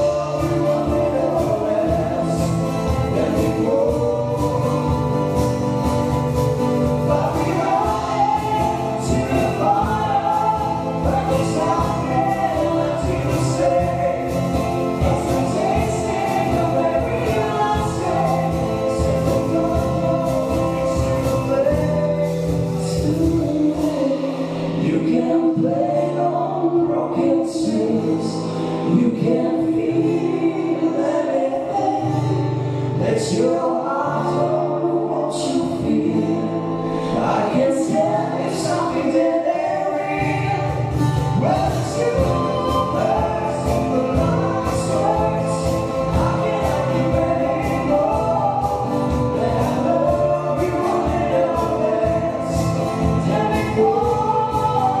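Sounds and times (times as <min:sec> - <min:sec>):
acoustic band playing: 0:00.0 - 0:55.0
low bass notes: 0:00.0 - 0:55.0
person singing: 0:00.0 - 0:55.0.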